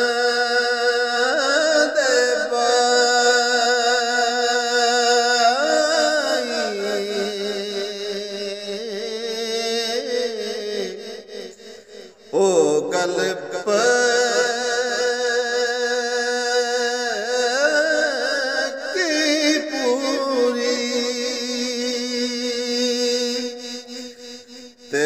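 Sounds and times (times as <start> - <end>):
man singing: 0.0 - 25.0.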